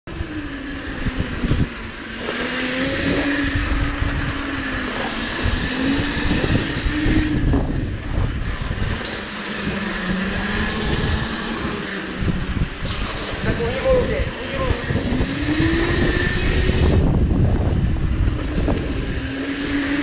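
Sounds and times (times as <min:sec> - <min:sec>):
motorbike engines droning: 0:00.1 - 0:20.0.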